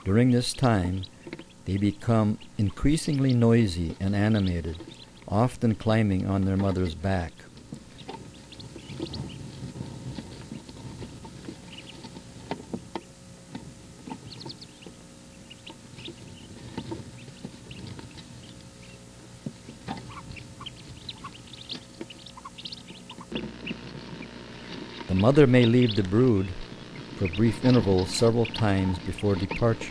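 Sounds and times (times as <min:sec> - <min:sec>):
ducklings peeping: 0:00.0 - 0:29.9
rustling: 0:01.0 - 0:29.9.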